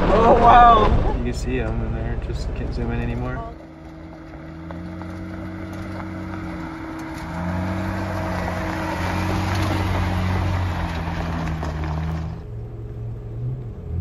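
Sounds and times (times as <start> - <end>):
tyres on dirt and gravel: 0.0 - 14.0
car engine driving past: 2.6 - 14.0.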